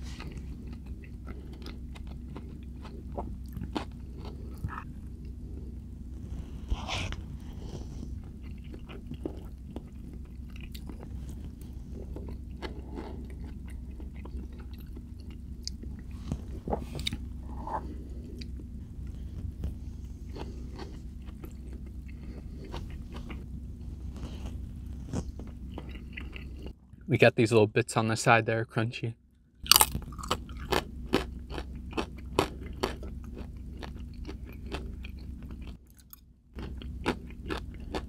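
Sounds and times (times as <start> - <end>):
person chewing with crunches: 0.0 - 26.8, 29.6 - 38.0
low hum: 0.0 - 38.0.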